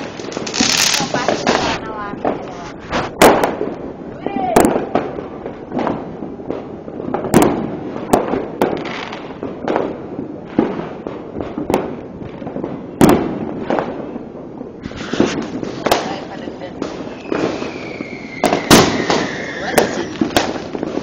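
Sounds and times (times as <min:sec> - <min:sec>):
distant fireworks rumble and crackle: 0:00.0 - 0:21.0
fireworks bangs with echo: 0:00.0 - 0:21.0.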